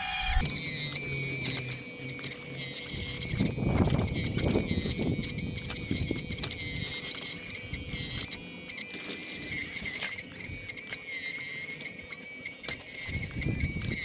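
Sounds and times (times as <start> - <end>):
hydraulic pump whining: 0.0 - 14.0.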